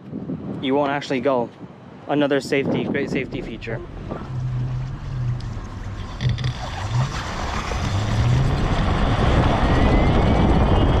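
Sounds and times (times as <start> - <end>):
wind and tyre rush: 0.0 - 11.0.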